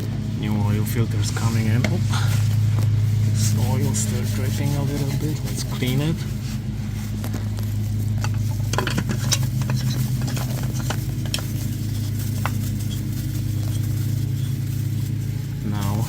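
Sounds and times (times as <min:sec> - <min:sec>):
low mechanical hum: 0:00.0 - 0:16.0
rag wiping and rubbing: 0:00.5 - 0:16.0.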